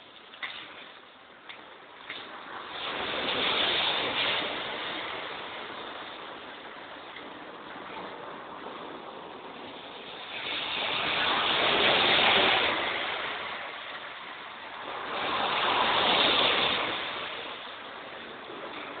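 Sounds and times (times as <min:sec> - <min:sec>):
vehicles passing by: 0:00.0 - 0:19.0.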